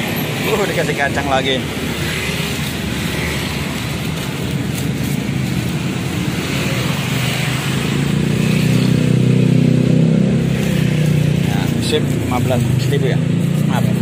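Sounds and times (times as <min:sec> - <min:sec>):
cars passing: 0:00.0 - 0:14.0
motorbikes passing: 0:00.0 - 0:14.0
motorcycle engine approaching: 0:00.5 - 0:14.0.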